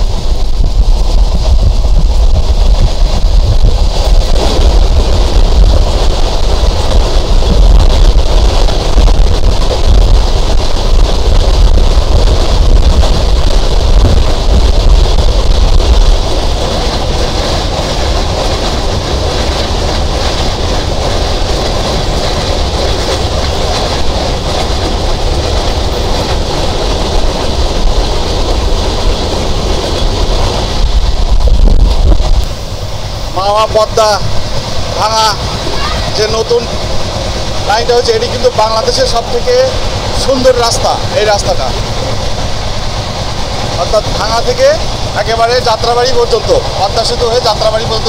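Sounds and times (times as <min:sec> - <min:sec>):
train carriages rumbling on rails: 0:00.0 - 0:48.0.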